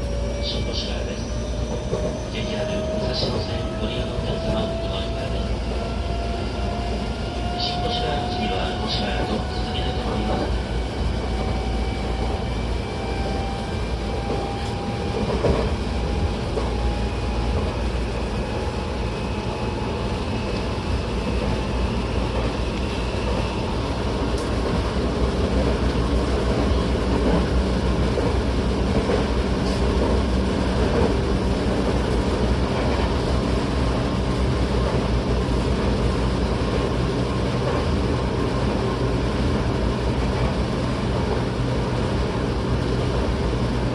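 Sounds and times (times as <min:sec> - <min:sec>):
wheels rumbling on rails: 0:00.0 - 0:43.9.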